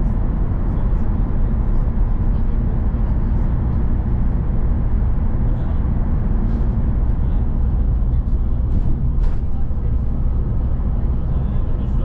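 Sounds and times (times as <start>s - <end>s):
bus engine and tyres rumble: 0.0s - 12.0s.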